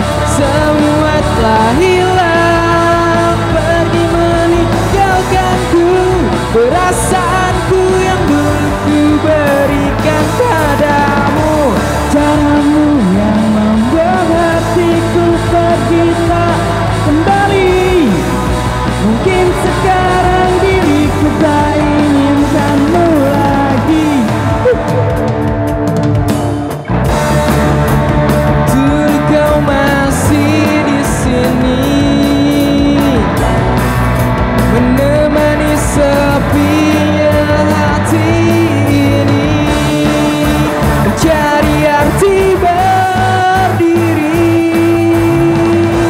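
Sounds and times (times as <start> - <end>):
man singing: 0.0 - 25.2, 27.2 - 33.9, 34.5 - 46.0
drum kit: 0.0 - 46.0
electric bass: 0.0 - 46.0
electric guitars: 0.0 - 46.0.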